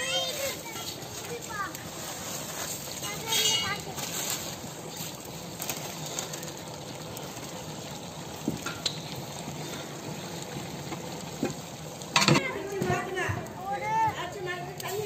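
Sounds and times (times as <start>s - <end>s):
gravy sizzling and bubbling: 0.0s - 15.0s.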